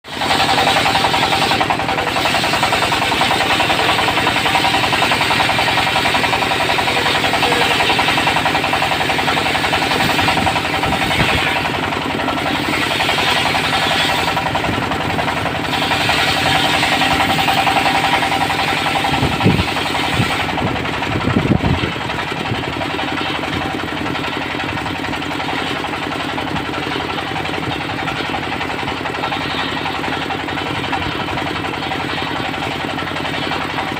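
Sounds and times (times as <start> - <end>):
saw blade cutting wood: 0.1 - 20.8, 24.5 - 33.9
diesel engine knocking: 0.1 - 33.9.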